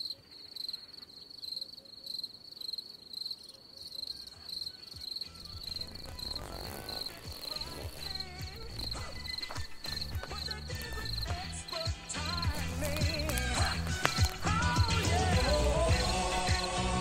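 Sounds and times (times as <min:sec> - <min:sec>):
crickets chirping: 0:00.0 - 0:16.7.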